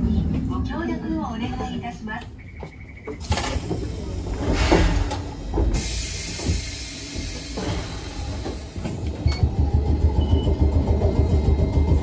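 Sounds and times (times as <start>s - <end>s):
tram clunks: 0.0s - 12.0s.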